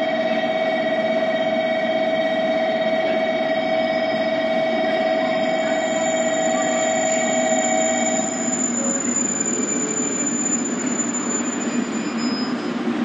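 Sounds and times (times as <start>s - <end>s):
thin whining tones: 0.0s - 12.7s
train wheels rumbling: 0.0s - 13.0s.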